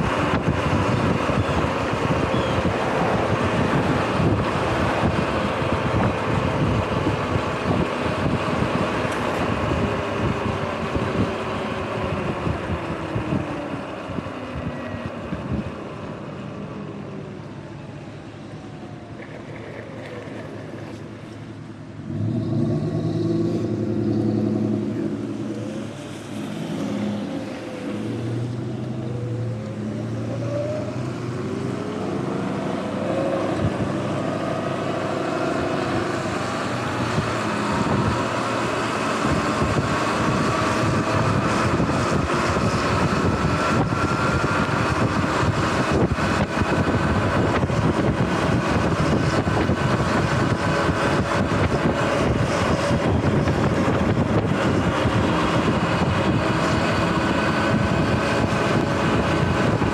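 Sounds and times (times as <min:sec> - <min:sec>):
wind buffeting microphone: 0:00.0 - 0:15.8, 0:22.2 - 0:59.9.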